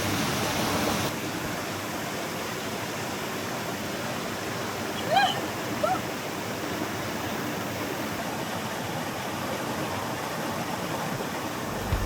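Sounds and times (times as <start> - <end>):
stream flowing over rocks: 0.0 - 12.0.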